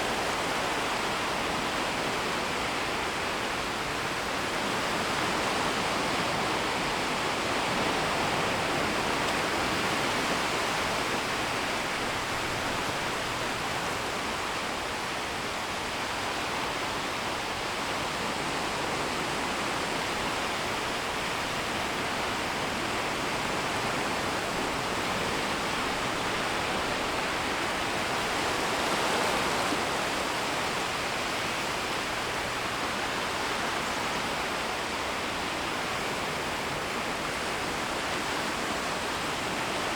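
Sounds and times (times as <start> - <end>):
shoreline waves washing: 0.0 - 39.9.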